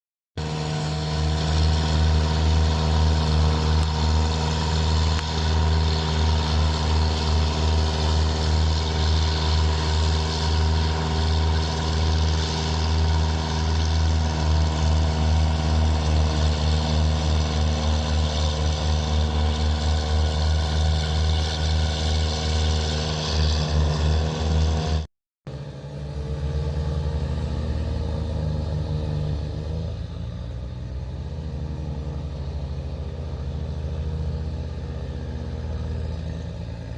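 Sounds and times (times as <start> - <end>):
diesel tractor engine rumbling: 0.4 - 36.9.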